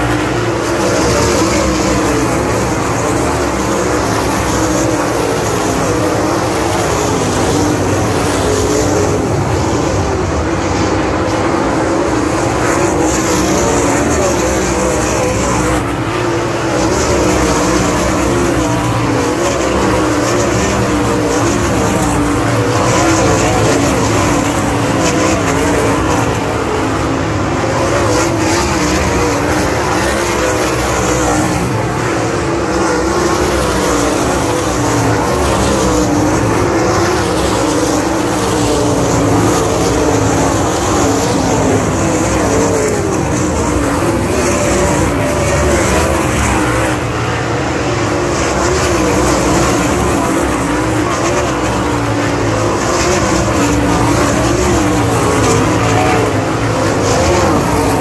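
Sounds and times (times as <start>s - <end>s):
race car engines roaring: 0.0s - 58.0s.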